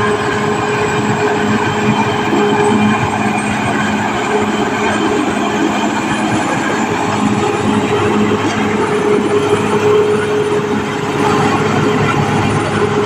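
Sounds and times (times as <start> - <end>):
bulldozer diesel engine: 0.0 - 13.0
steel tracks running: 0.0 - 13.0.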